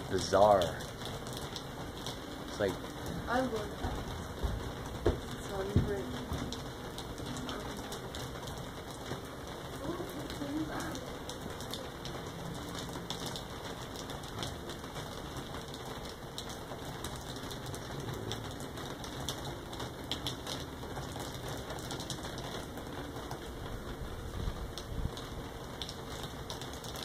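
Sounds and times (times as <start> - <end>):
light rain hissing: 0.0 - 27.0.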